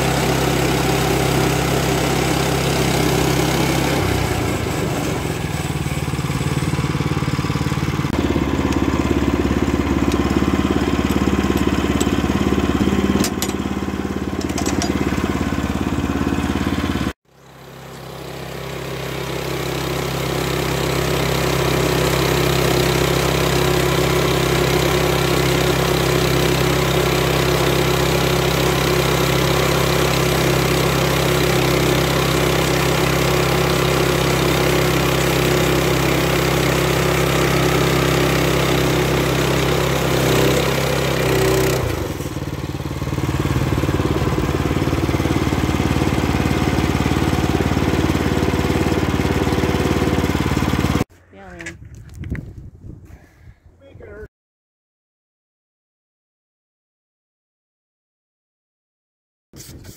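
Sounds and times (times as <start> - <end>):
sawmill gas engine running: 0.0 - 51.1.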